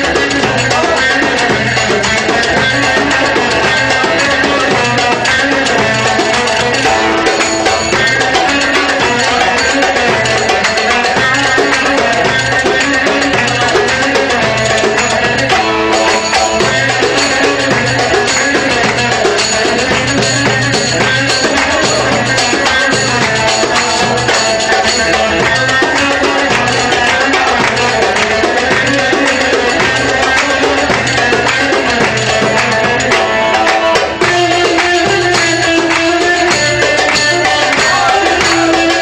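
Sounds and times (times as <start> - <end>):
darbuka drum beat: 0.0 - 39.0
electric saz melody: 0.0 - 39.0
frame drum beat: 0.0 - 39.0.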